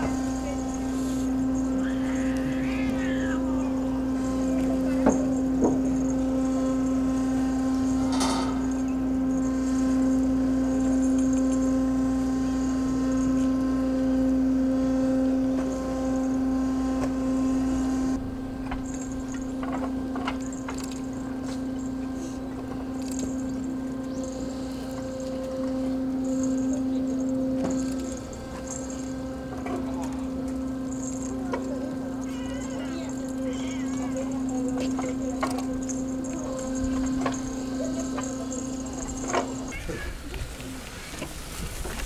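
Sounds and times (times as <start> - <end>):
engine hum: 0.0 - 42.0.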